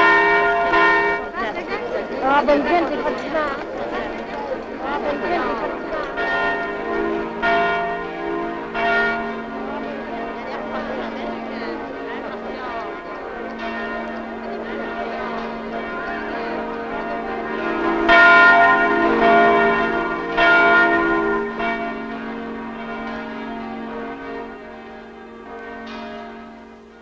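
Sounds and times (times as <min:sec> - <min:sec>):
large church bells ringing: 0:00.0 - 0:27.0.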